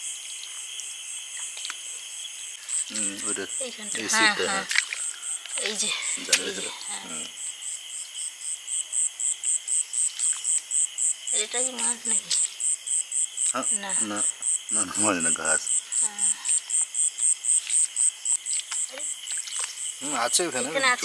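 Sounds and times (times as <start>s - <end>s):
high-pitched insect chirp: 0.0s - 21.0s
insect drone: 0.0s - 21.0s.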